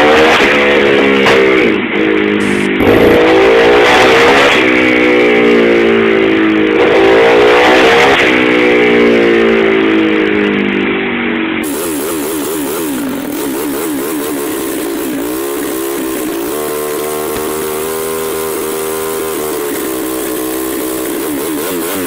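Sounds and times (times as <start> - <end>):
small motorbike engine revving: 0.0 - 9.8, 11.6 - 22.0.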